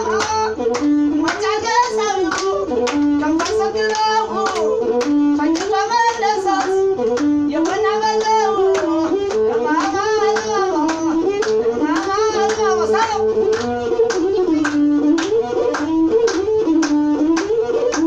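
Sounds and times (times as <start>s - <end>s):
bowed string melody: 0.0s - 18.0s
hand claps: 0.0s - 18.0s.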